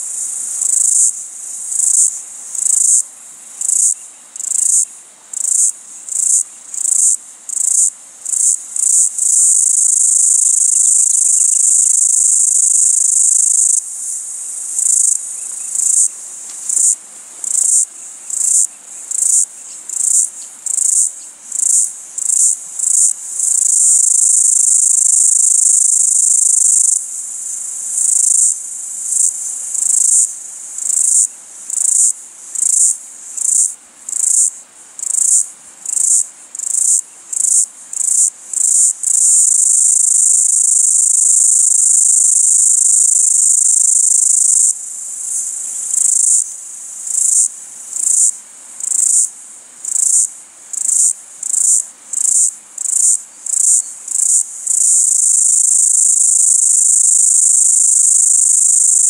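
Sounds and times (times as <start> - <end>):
cicada calling: 0.0 - 59.0.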